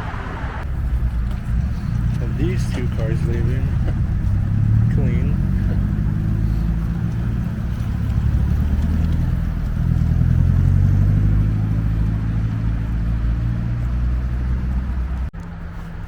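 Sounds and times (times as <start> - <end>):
car engines pulling away: 0.0 - 16.0.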